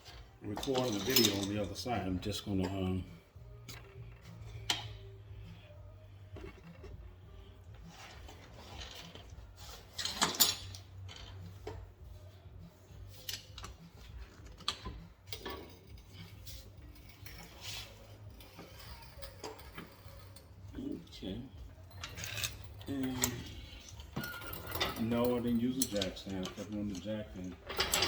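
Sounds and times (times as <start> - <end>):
metal tools clinking and knocking: 0.0 - 5.2, 7.8 - 11.8, 13.0 - 28.0.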